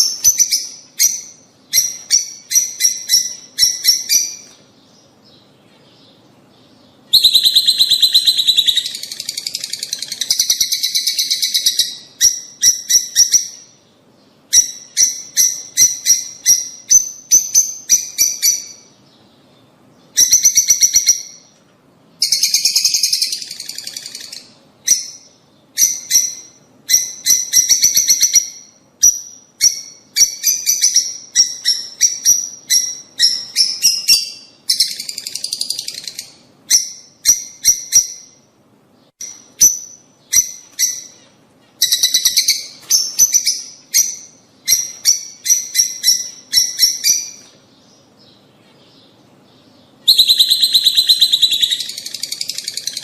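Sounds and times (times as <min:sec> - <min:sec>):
lovebirds chirping shrilly: 0:00.0 - 0:13.8, 0:22.2 - 0:38.4, 0:39.1 - 0:53.0.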